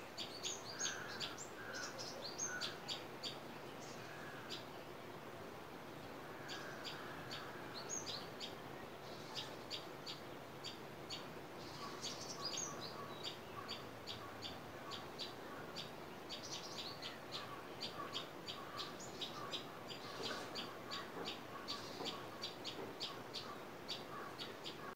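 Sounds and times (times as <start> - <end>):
small birds chirping: 0.0 - 5.2, 6.3 - 24.9
steady background hiss: 0.0 - 24.9.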